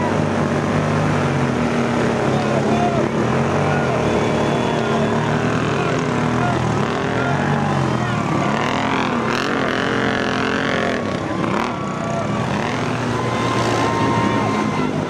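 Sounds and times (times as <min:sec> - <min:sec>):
quad engines revving: 0:00.0 - 0:15.0
wheels spinning in mud: 0:00.0 - 0:15.0.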